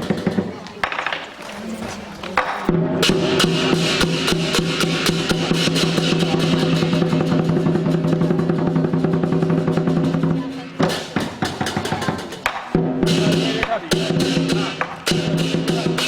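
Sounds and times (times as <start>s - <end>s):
fast drum roll: 0.0s - 1.0s, 2.4s - 16.0s
cymbals clashing: 2.4s - 16.0s.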